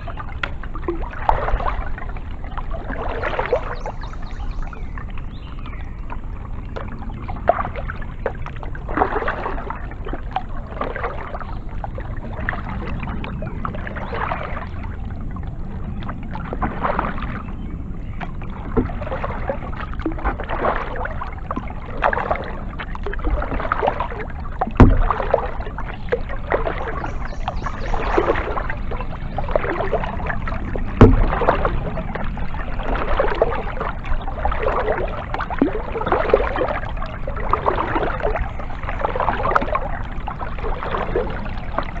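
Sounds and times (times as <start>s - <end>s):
low rumble: 0.0s - 42.0s
paddle splashing in water: 0.0s - 42.0s.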